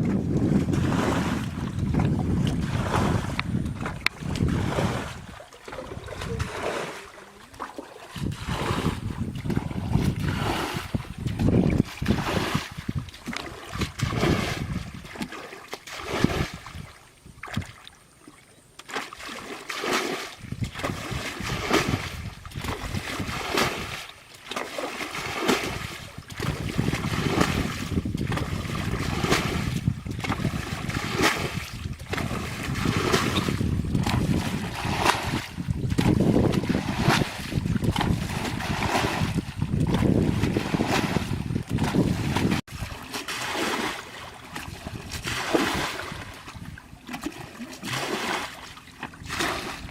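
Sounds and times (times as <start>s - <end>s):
wind rumble on microphone: 0.0s - 6.7s, 8.1s - 15.2s, 16.0s - 17.8s, 20.4s - 24.1s, 25.2s - 43.0s, 44.5s - 47.2s, 49.2s - 49.9s
water splashing and sloshing: 0.0s - 49.9s.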